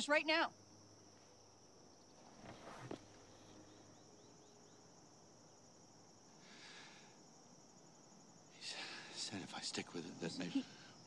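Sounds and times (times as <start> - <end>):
cricket trill: 0.0 - 11.0
soft hiss: 0.0 - 11.0
faint chirps: 0.4 - 11.0.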